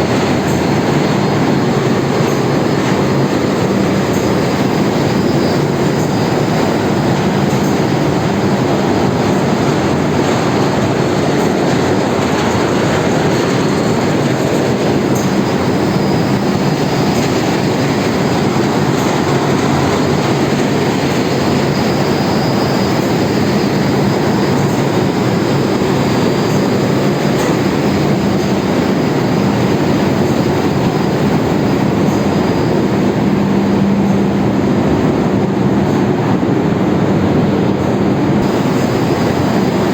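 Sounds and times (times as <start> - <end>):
engine room machinery roar: 0.0 - 39.9.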